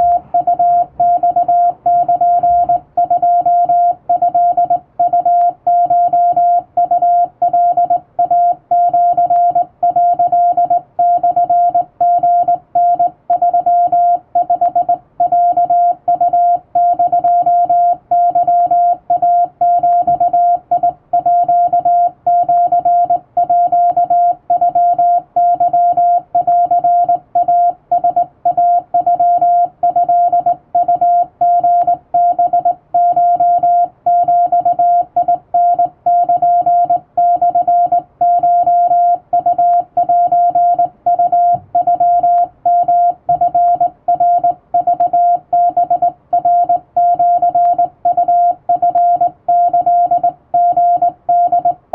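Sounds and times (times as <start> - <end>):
morse code beeps: 0.0 - 51.8.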